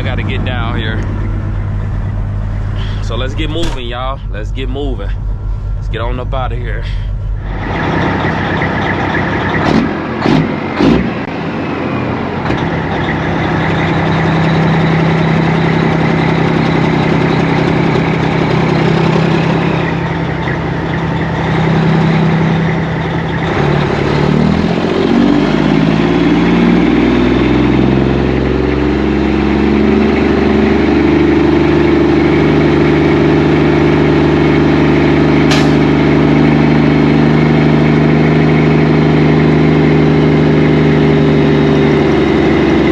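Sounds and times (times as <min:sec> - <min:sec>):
diesel truck engine accelerating: 0:00.0 - 0:42.9.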